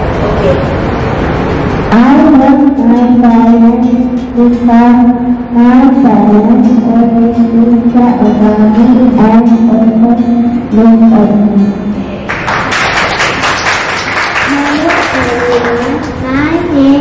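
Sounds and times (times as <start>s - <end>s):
bright noisy music layer: 0.0s - 17.0s.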